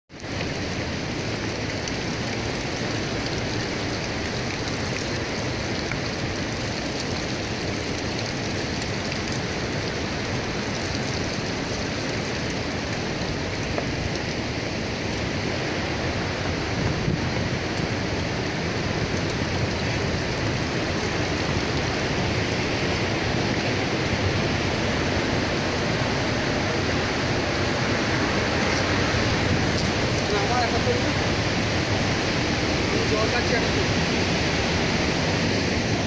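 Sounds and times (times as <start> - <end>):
fast-flowing mountain water: 0.1 - 36.0.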